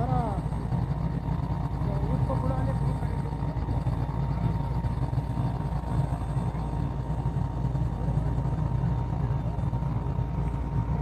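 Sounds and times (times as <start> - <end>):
helicopter engine and rotor rumble: 0.0 - 11.0.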